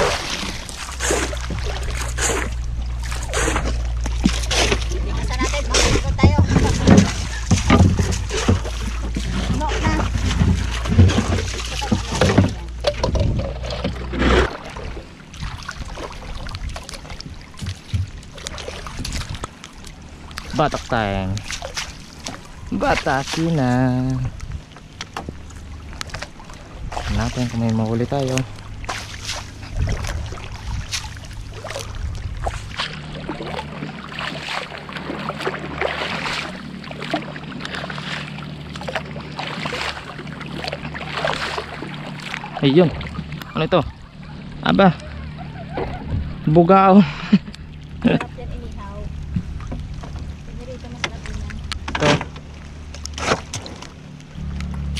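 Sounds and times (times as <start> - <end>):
low hum: 0.0 - 54.9
low rumble: 0.0 - 54.9
water splashing: 0.0 - 54.9.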